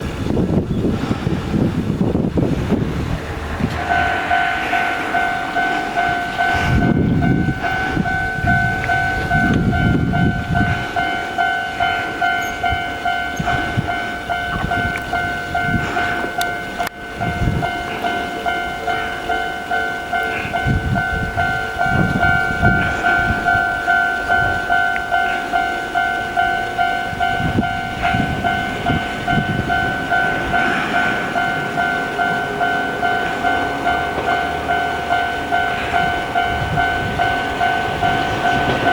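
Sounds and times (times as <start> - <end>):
level crossing warning bell: 0.0 - 38.9
low rumbling noise: 0.0 - 38.9.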